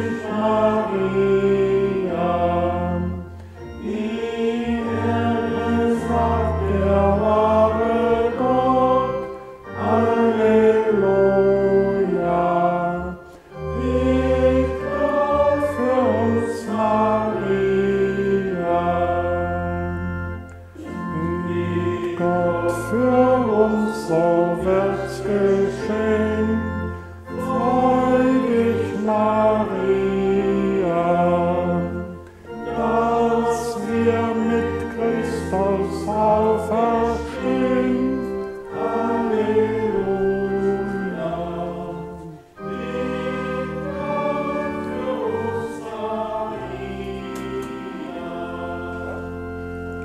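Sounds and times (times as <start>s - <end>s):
organ accompaniment: 0.0s - 50.0s
voices singing a hymn: 0.0s - 50.0s.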